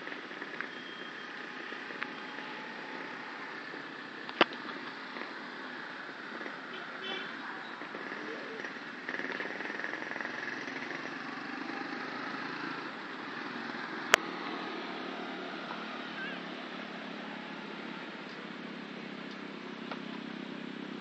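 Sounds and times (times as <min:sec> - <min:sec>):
distant motorcycle engine hum: 0:00.0 - 0:21.0
open-air background noise: 0:00.0 - 0:21.0.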